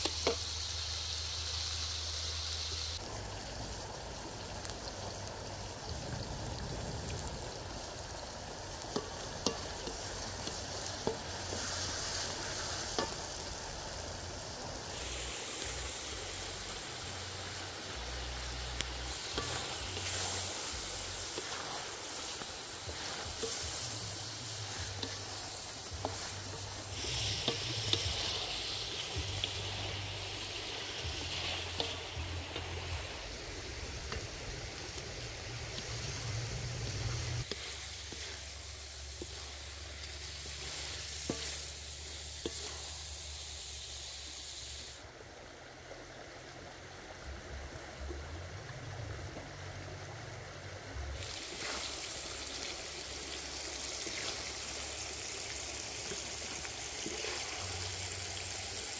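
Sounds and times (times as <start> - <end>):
food sizzling in a wok: 0.0 - 58.9.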